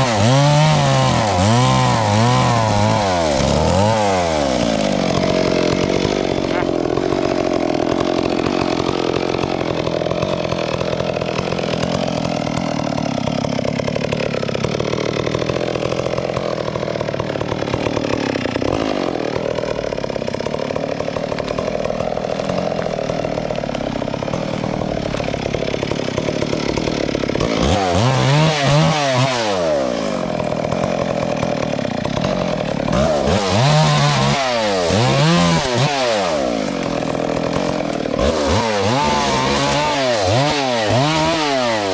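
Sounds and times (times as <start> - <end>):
chainsaw cutting log: 0.0 - 41.9
chainsaw revving: 0.0 - 41.9.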